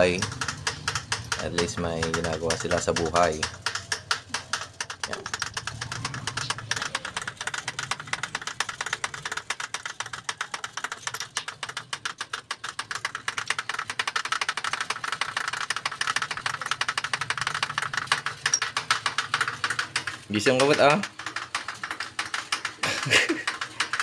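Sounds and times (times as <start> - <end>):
rapid metal clicking and rattling: 0.0 - 24.0.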